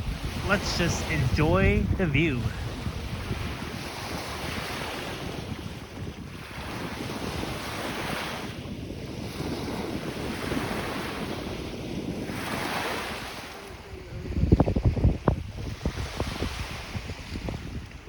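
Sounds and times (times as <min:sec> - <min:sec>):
waves washing onto beach: 0:00.0 - 0:18.0
wind buffeting microphone: 0:00.0 - 0:18.0.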